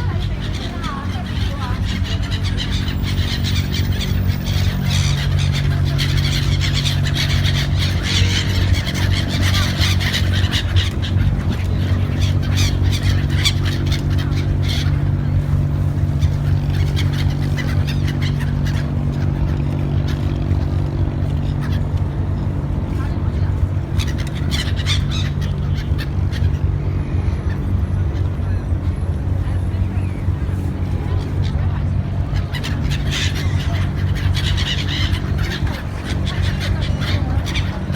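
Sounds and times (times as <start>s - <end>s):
birds calling: 0.0s - 37.9s
boat engine drone: 0.0s - 37.9s.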